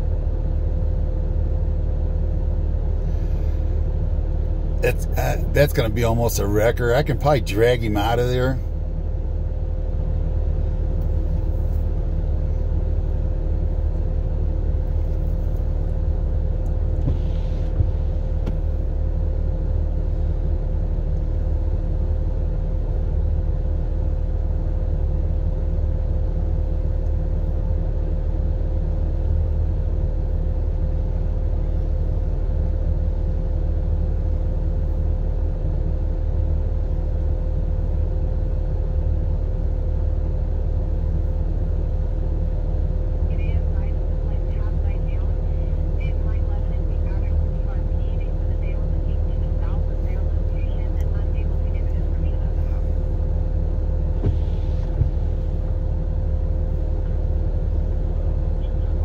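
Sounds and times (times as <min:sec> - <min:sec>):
thin steady hum: 0:00.0 - 0:59.0
vehicle engine idling: 0:00.0 - 0:59.0.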